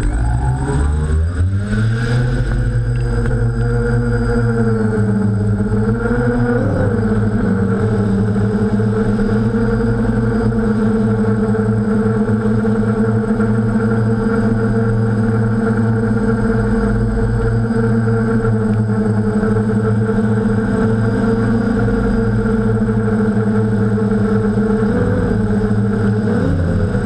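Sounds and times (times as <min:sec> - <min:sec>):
drone propellers humming: 0:00.0 - 0:27.0.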